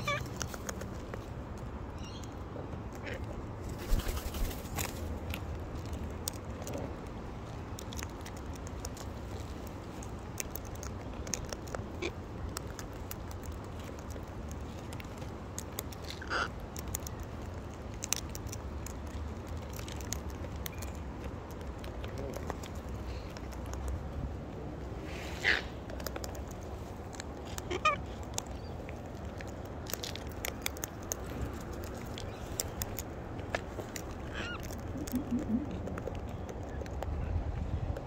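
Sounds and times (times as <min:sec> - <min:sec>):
low steady rumble: 0:04.6 - 0:38.0.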